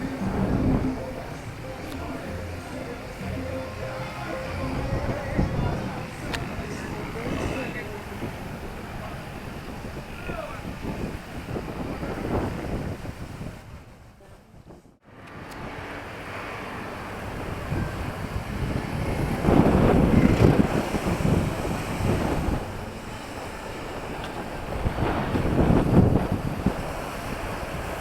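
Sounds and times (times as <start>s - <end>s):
street ambience: 0.0s - 28.0s
wind on microphone: 0.0s - 28.0s.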